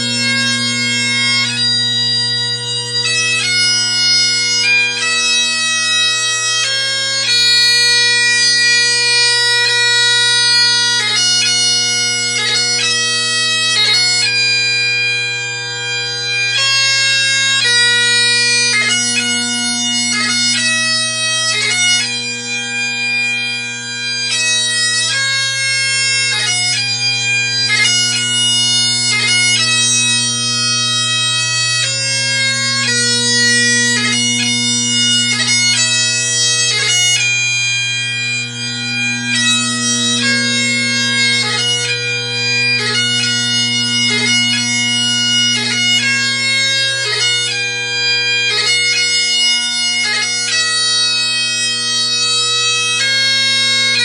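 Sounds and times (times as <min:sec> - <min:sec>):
bagpipe chanter melody: 0:00.0 - 0:54.0
bagpipe drones: 0:00.0 - 0:54.0.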